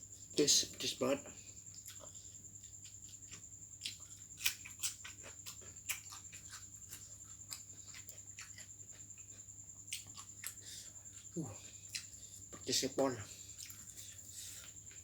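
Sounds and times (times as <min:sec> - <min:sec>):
person chewing: 0:01.7 - 0:12.6, 0:13.3 - 0:15.0.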